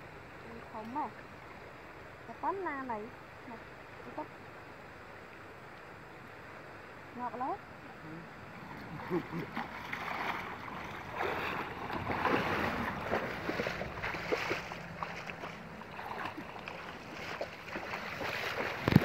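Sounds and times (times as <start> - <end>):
river water splashing: 0.0 - 19.0.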